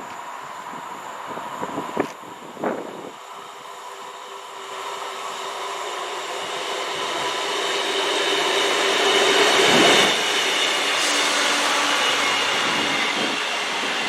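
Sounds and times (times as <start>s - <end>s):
train running: 0.0s - 14.0s
train whine: 0.0s - 14.0s.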